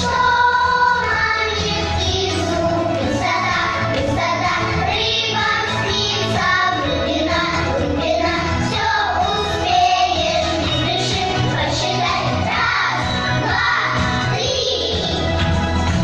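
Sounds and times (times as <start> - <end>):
child singing: 0.0 - 15.2
musical accompaniment: 0.0 - 16.0.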